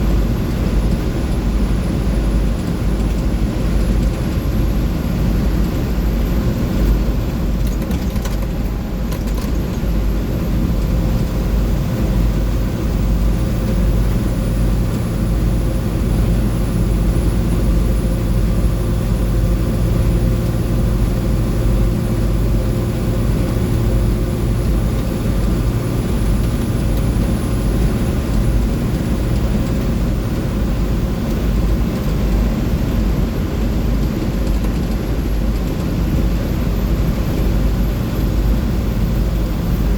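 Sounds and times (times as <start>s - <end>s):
diesel bus engine running: 0.0s - 39.9s
road and wind drone: 0.0s - 39.9s.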